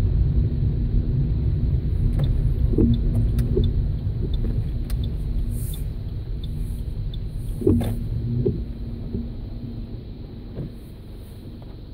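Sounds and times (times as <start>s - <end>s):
car road noise rumble: 0.0s - 11.9s.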